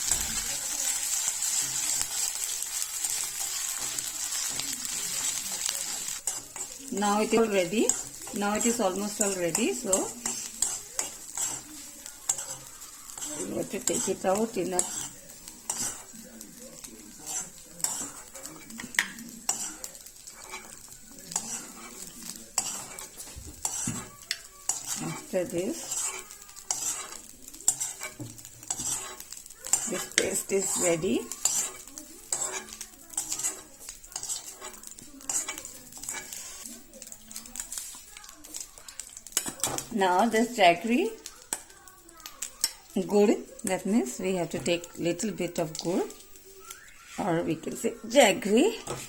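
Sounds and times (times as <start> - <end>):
paste sizzling in a pan: 0.0 - 49.0.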